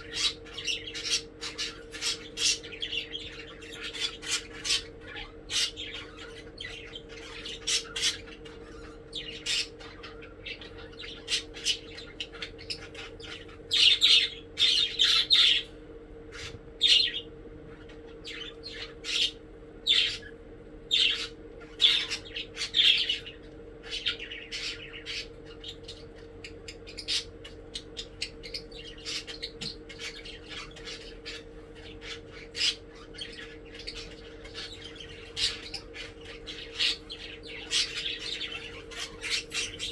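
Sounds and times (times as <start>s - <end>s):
budgies chirping and squawking: 0.0s - 39.9s
faint low hum: 0.0s - 39.9s.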